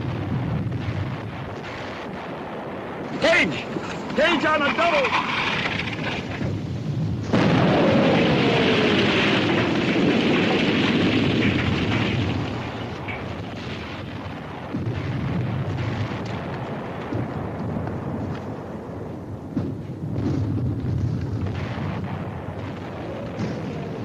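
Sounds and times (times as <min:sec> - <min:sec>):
loud explosion: 0:00.0 - 0:24.0.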